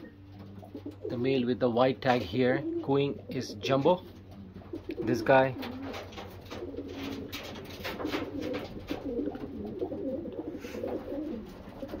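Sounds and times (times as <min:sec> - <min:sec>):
pigeon cooing: 0:00.0 - 0:12.0.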